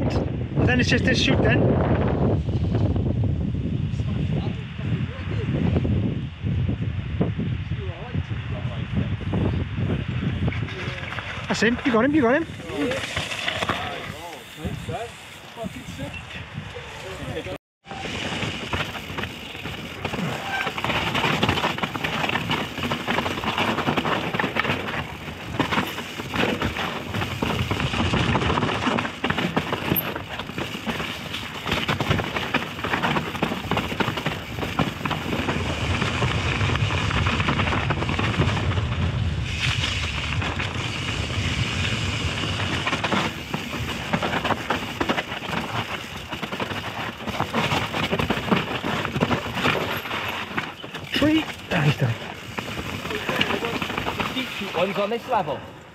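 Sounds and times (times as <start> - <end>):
wind noise: 0.0 - 55.9
bike rattling and clattering: 10.2 - 55.6
tyre noise: 10.5 - 55.6.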